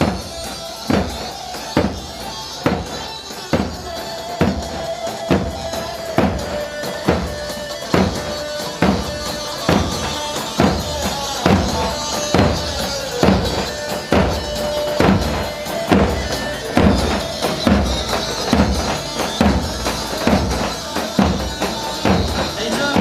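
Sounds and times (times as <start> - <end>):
heavy drum beat: 0.0 - 23.0.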